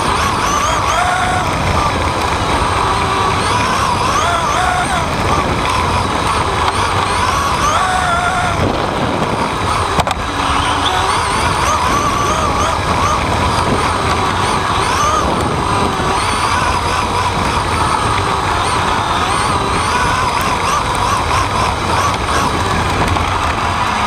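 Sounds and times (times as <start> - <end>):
rc car motor whine: 0.0 - 24.0
tyres and wind rumble: 0.0 - 24.0.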